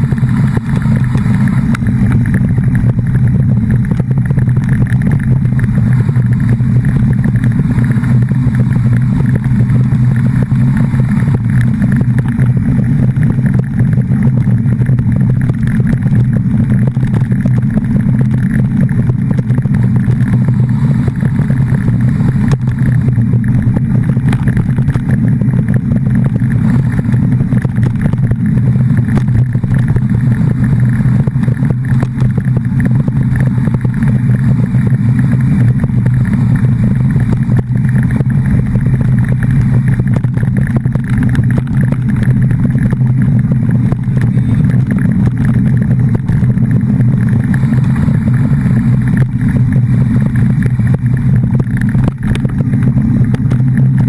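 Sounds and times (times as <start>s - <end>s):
road and wind noise: 0.0s - 54.0s
vehicle engine running: 0.0s - 54.0s.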